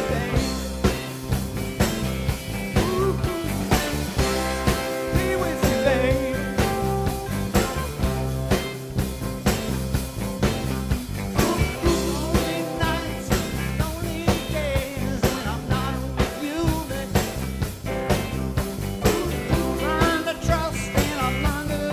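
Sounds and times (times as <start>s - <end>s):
drum beat: 0.0s - 21.9s.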